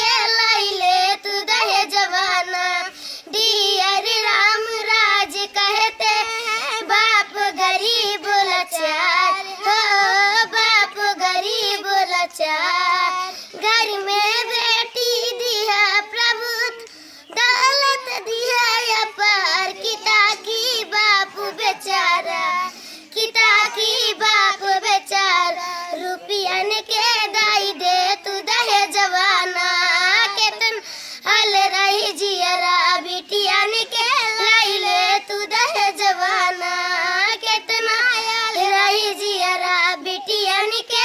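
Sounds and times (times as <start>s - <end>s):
girl singing folk song: 0.0s - 41.0s.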